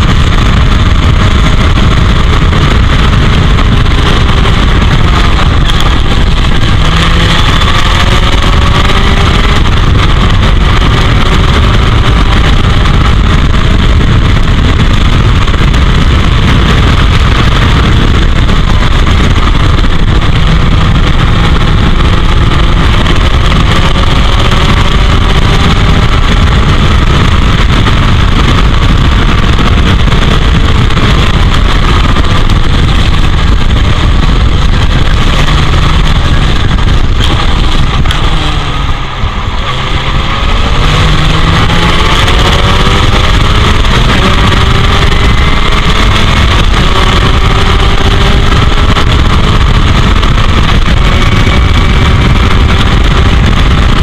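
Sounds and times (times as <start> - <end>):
race car engine revving: 0.0 - 54.0
wind noise on microphone: 0.0 - 54.0.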